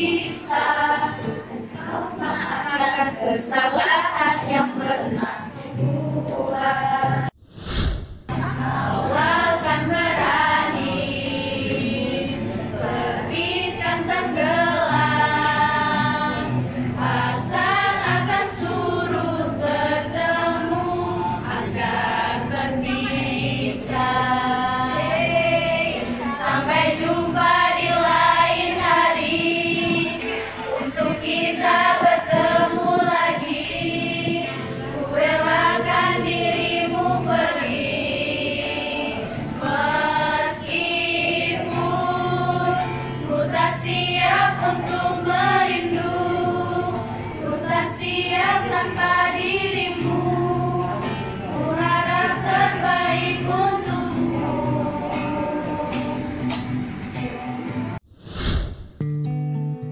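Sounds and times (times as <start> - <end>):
women singing together: 0.0 - 7.4, 8.3 - 56.9.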